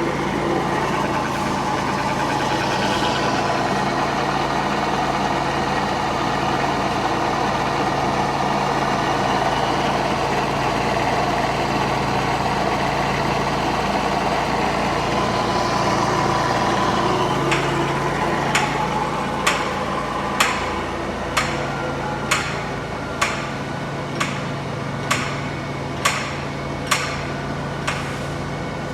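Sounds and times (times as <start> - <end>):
milling machine humming: 0.0 - 25.0.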